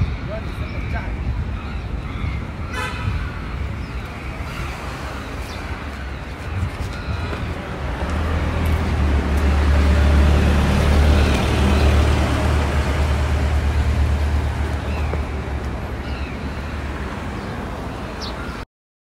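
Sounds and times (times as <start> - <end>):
cars and trucks driving by: 1.0 - 18.6.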